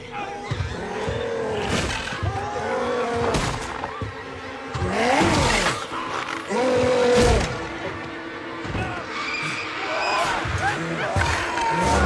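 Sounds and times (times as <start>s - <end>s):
gliding cries: 2.2s - 12.0s.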